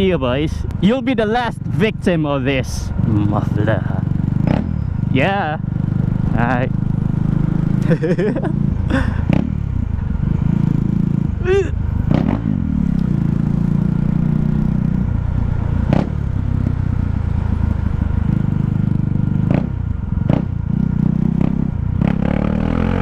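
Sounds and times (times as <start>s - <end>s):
motorcycle engine with open exhaust: 0.0s - 23.0s.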